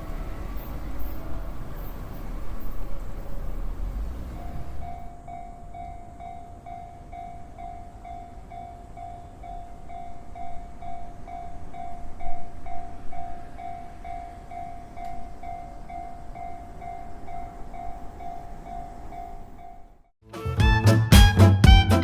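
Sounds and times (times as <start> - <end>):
level-crossing electronic warning bell: 0.0 - 20.0
train rumble: 0.0 - 20.0.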